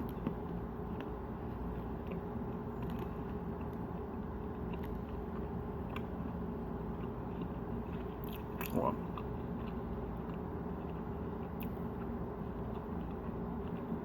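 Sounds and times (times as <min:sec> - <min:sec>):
person chewing crunchy bar: 0:00.0 - 0:14.0
steady background hum: 0:00.0 - 0:14.0.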